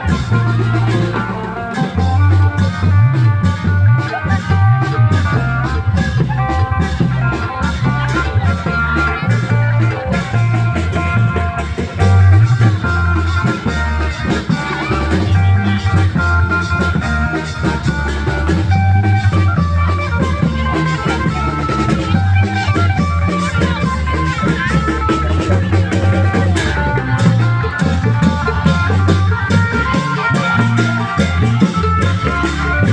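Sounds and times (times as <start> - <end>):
bass line: 0.0 - 32.9
drums and cymbals beat: 0.0 - 32.9
plucked lead melody: 0.0 - 32.9.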